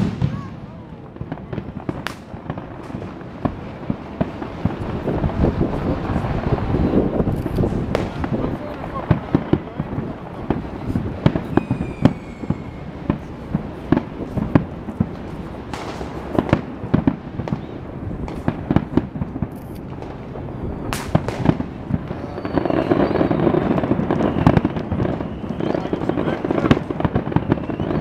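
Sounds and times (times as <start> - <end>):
firework whistling: 0.0 - 28.0
fireworks bursting: 0.0 - 28.0.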